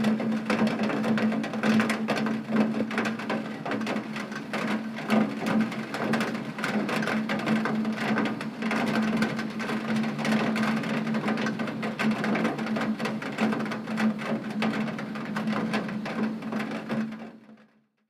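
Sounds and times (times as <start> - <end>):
rain pattering on a window: 0.0 - 17.8.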